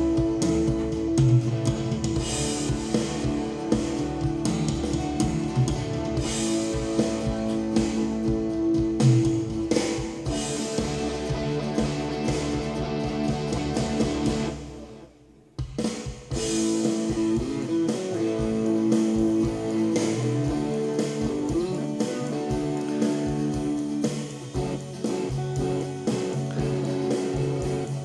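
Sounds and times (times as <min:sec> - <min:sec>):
band music with guitar and drums: 0:00.0 - 0:28.0.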